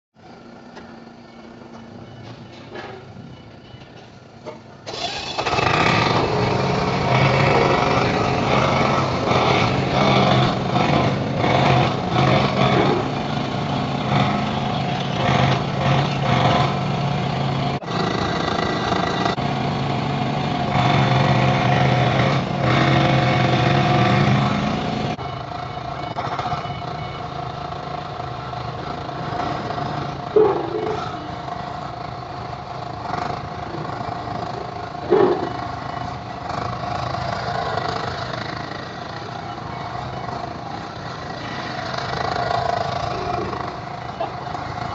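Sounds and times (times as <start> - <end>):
excavator engine running: 0.2 - 44.9.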